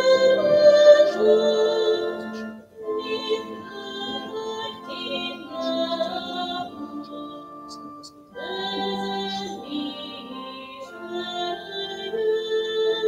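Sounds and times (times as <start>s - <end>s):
hymn singing: 0.0s - 13.0s.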